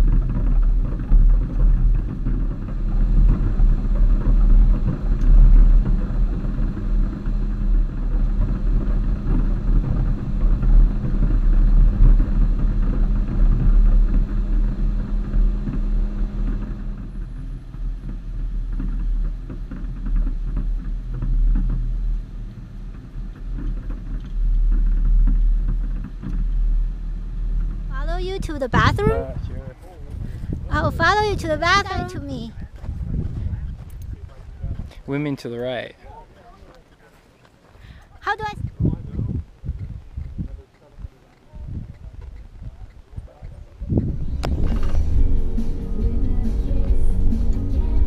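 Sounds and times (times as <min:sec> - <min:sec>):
steady hum: 0:00.0 - 0:35.0, 0:43.7 - 0:48.0
off-road vehicle driving on dirt: 0:00.0 - 0:48.0.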